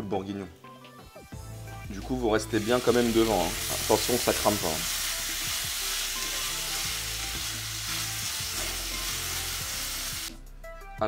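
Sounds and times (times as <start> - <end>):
vegetables sizzling in a pot: 1.4 - 10.4.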